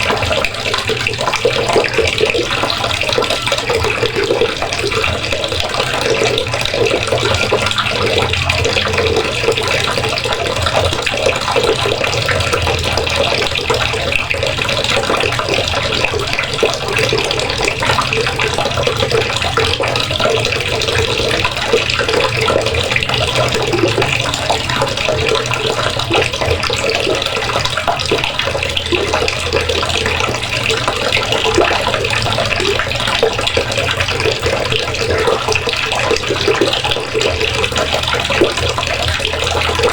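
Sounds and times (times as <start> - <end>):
water running from a faucet: 0.0 - 39.9.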